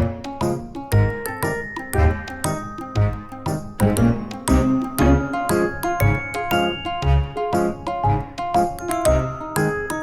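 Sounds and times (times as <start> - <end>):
upbeat music with chiming notes: 0.0 - 10.0.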